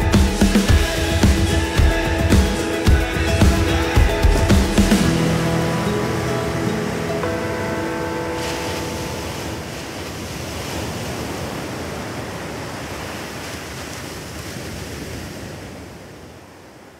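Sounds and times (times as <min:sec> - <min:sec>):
ocean waves washing: 0:00.0 - 0:16.9.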